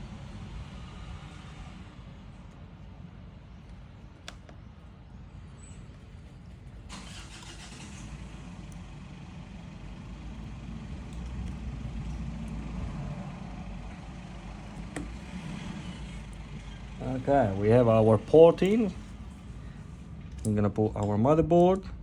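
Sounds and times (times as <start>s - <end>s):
engine rumbling: 0.0s - 22.0s.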